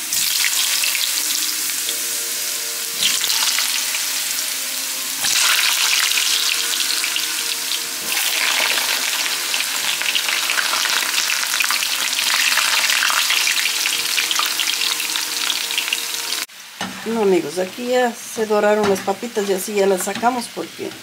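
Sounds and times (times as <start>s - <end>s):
potatoes sizzling in oil: 0.0s - 21.0s.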